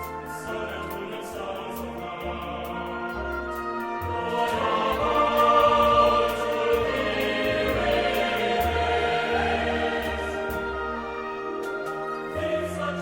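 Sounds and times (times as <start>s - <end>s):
choir singing sustained notes: 0.0s - 13.0s
instrumental accompaniment: 0.0s - 13.0s.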